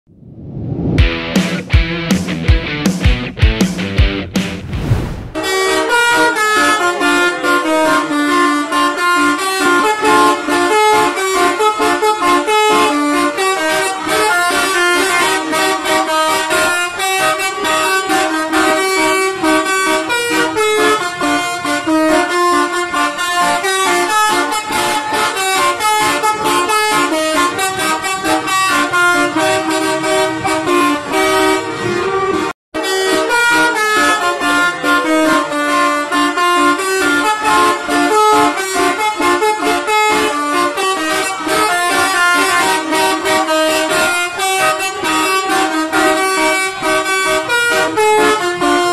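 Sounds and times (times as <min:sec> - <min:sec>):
bus horn playing a melody: 0:05.4 - 0:48.9.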